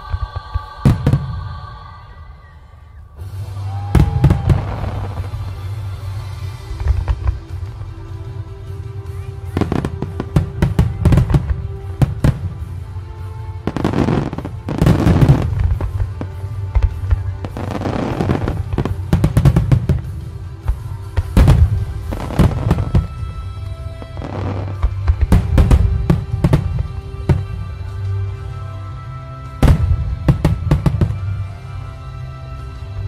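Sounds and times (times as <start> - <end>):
fireworks bursts and crackling: 0.0 - 1.8, 3.1 - 33.0
background music: 0.0 - 33.0.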